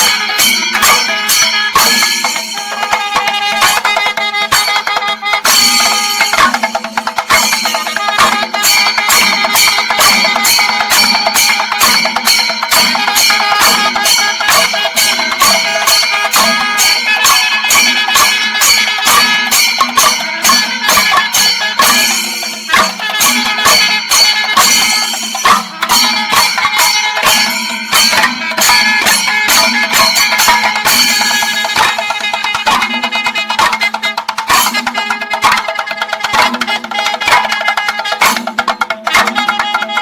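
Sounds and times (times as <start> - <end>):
drums playing fast beat: 0.0 - 40.0
hand cymbals ringing: 0.0 - 40.0.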